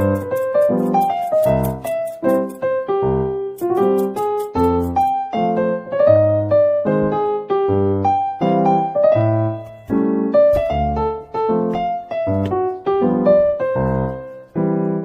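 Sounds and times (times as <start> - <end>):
light piano tune with bass: 0.0 - 15.0.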